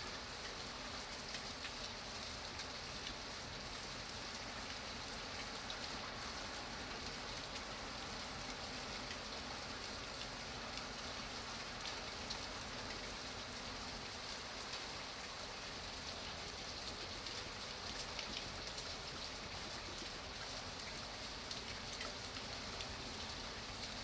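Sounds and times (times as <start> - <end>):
rain on a hard surface: 0.0 - 24.0.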